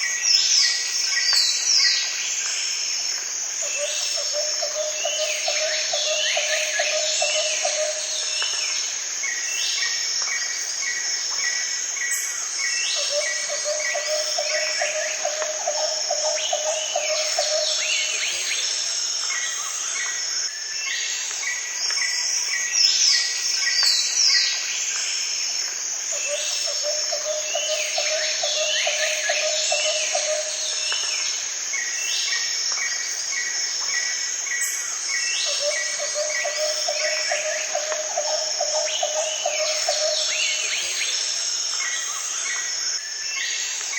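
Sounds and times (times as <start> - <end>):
insect drone: 0.0 - 43.9.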